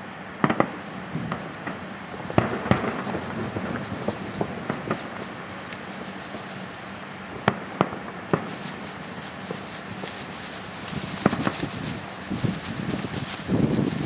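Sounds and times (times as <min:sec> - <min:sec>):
background rush: 0:00.0 - 0:14.0
fireworks bangs: 0:00.4 - 0:14.0.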